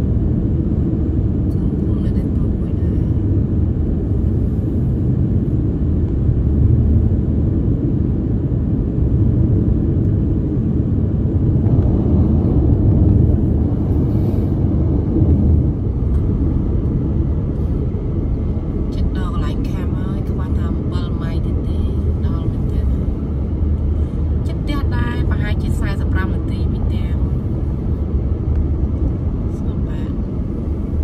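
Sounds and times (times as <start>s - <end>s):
car cabin road rumble: 0.0s - 31.0s.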